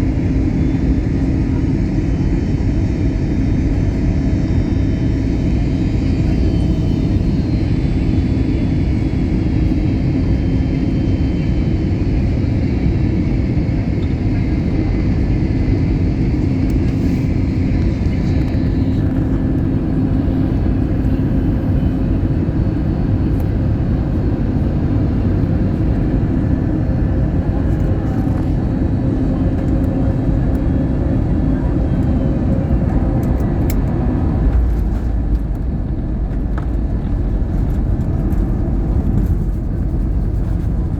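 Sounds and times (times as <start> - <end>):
airplane cabin engine rumble: 0.0 - 40.9
constant low hum: 0.0 - 40.9.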